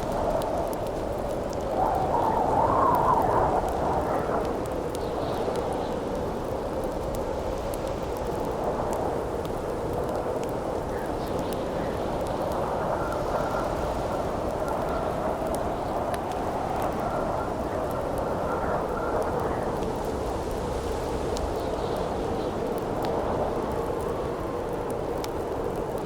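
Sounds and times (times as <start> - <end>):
campfire crackling and popping: 0.0 - 26.0
howling wind: 0.0 - 26.0.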